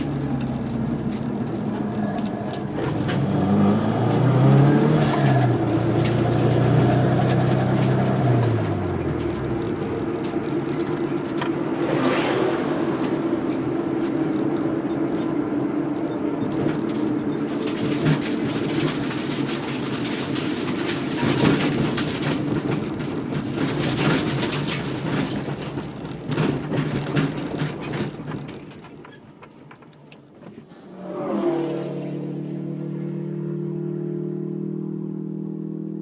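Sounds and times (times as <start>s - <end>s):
car engine running steadily: 0.0s - 36.0s.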